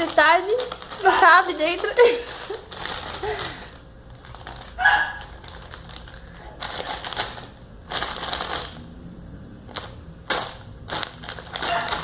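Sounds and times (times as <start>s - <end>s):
plastic bag crinkling: 0.0s - 8.8s, 9.7s - 12.0s.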